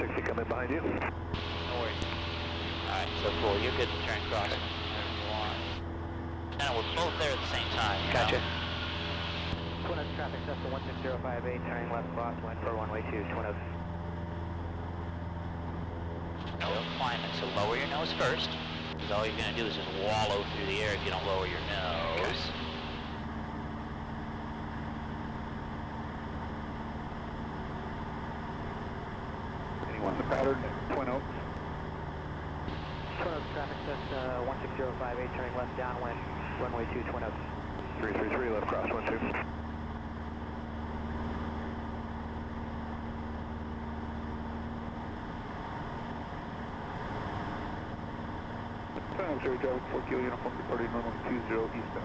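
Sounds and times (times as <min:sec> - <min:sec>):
airplane engine and propeller droning: 0:00.0 - 0:52.0.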